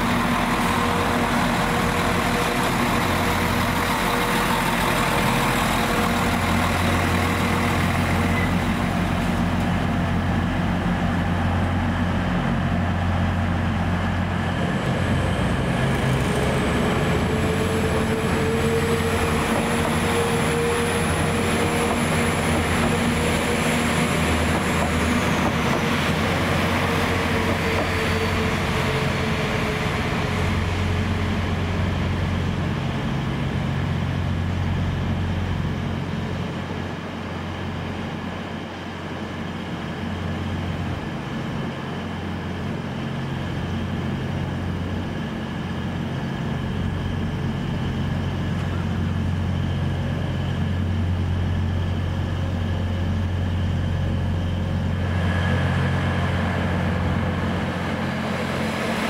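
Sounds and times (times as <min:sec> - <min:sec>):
low diesel engine drone: 0:00.0 - 0:59.0
train rising whine: 0:00.0 - 0:59.0.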